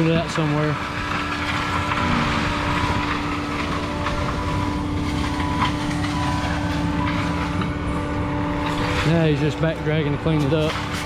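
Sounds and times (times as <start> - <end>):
mulcher engine drone: 0.0 - 11.0
steady hum: 0.0 - 11.0.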